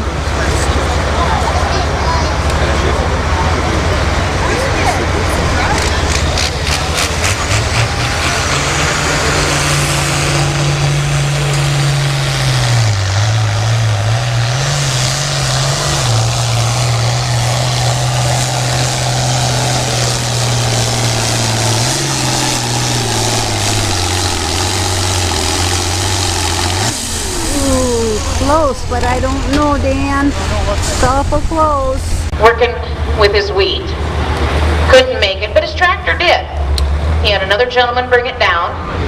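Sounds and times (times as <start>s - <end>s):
tractor engine at full throttle: 0.0s - 39.0s.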